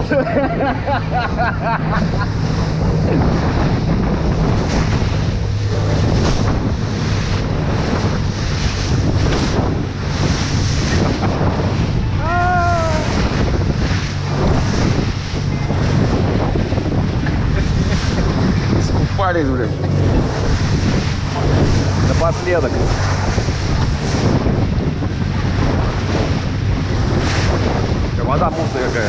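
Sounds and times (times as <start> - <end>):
motorboat motor drone: 0.0 - 29.0
water rushing against hull: 0.0 - 29.0
wind noise on microphone: 0.0 - 29.0.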